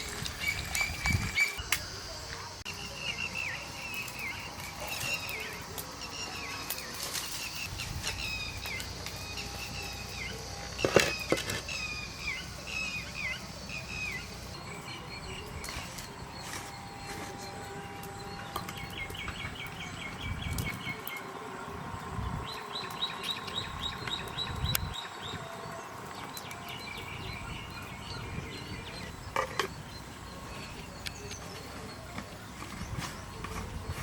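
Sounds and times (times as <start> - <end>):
bird chirping: 2.7 - 34.0.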